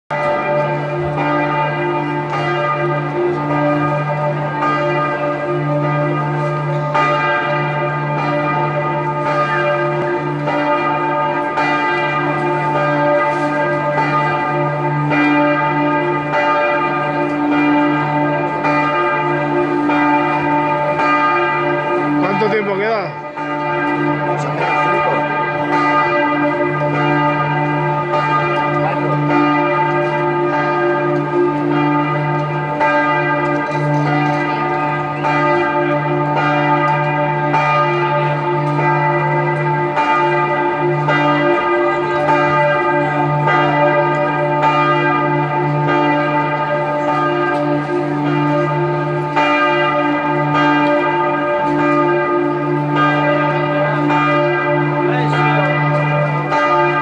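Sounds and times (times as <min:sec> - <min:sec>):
tower bell ringing: 0:00.1 - 0:57.0.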